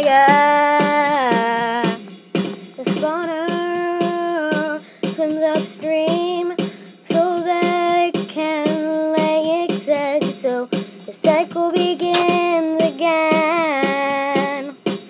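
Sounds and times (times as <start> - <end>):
child singing: 0.0 - 2.0, 2.8 - 14.8.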